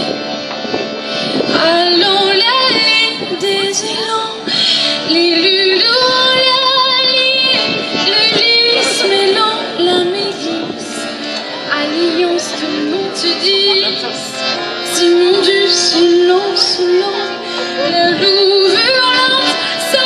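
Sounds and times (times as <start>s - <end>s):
keyboard accompaniment: 0.0s - 20.0s
woman singing with vibrato: 1.4s - 20.0s.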